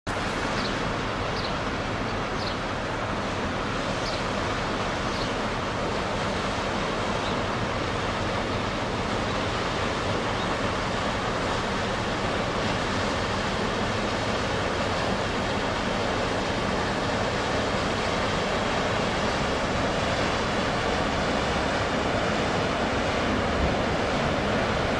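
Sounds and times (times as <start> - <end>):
diesel engine drone: 0.1 - 24.9
water rushing from bow wave: 0.1 - 24.9.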